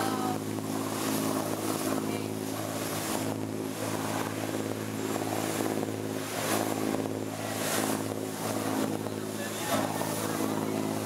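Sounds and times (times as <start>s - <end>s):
boat engine humming: 0.0s - 11.0s
rushing water: 0.0s - 11.0s.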